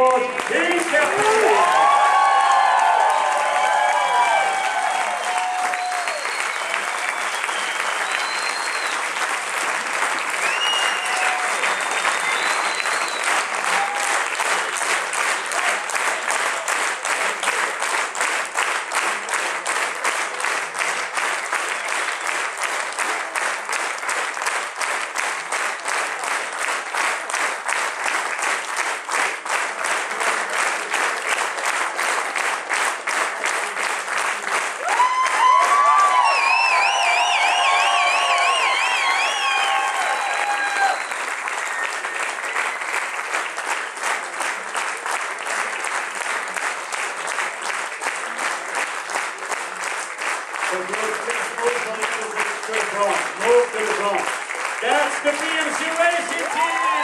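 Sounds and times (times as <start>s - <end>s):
crowd applauding: 0.0s - 57.0s
crowd cheering: 0.0s - 57.0s.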